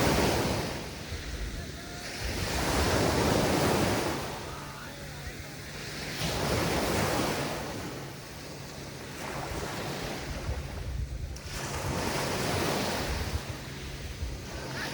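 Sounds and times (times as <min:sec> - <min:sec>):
waves breaking on beach: 0:00.0 - 0:14.9
wind on microphone: 0:00.0 - 0:14.9.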